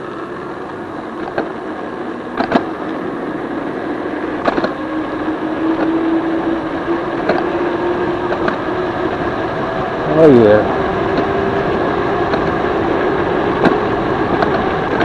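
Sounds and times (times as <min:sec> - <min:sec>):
electric motor whine: 0:00.0 - 0:15.0
wind and tyre noise: 0:00.0 - 0:15.0.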